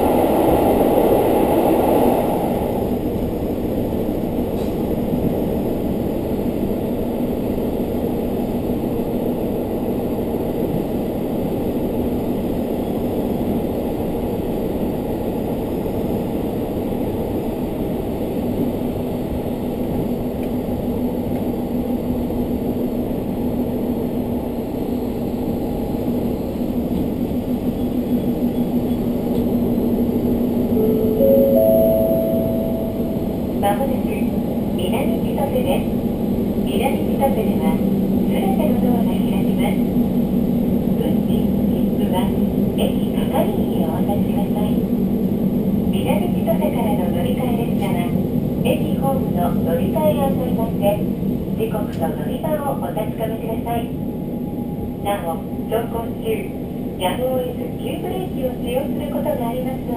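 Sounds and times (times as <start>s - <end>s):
railcar engine rumble: 0.0s - 59.9s.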